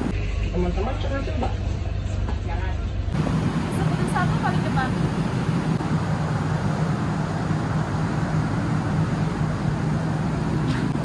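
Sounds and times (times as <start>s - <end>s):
stationary train drone: 0.0s - 11.0s.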